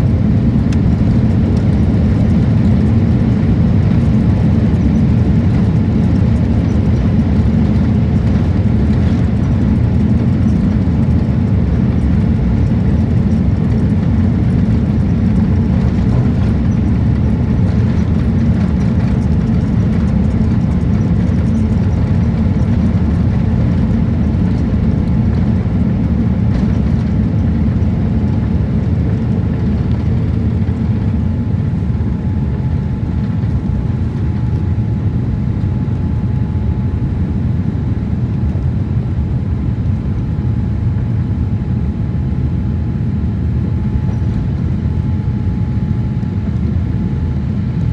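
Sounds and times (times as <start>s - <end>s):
faint steady whine: 0.0s - 47.9s
jet cabin engine roar: 0.0s - 47.9s.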